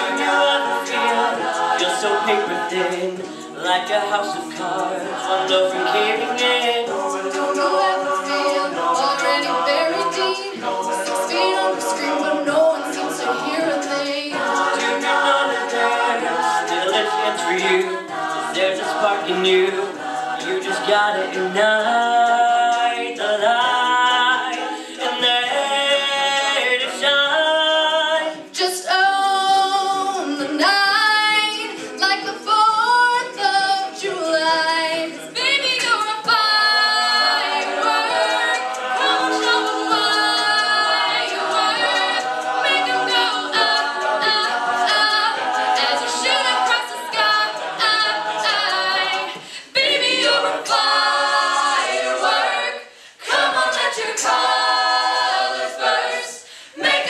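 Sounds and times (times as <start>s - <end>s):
a cappella group singing: 0.0s - 57.0s.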